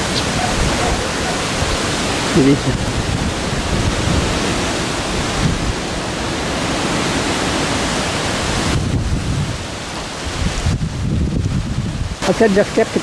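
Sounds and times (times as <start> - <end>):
strong wind buffeting microphone: 0.0 - 12.8.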